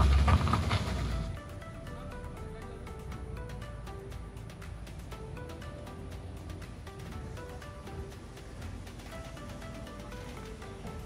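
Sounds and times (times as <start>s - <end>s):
plucked melody over steady beat: 0.0s - 11.0s.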